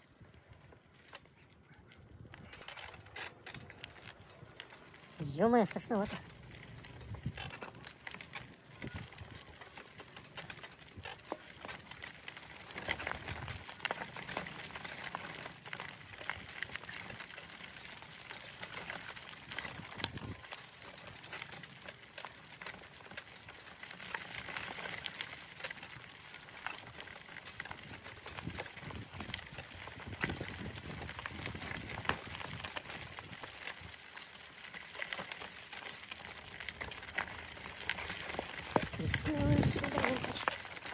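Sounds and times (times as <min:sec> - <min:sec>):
tyres crunching gravel: 0:00.5 - 0:40.9.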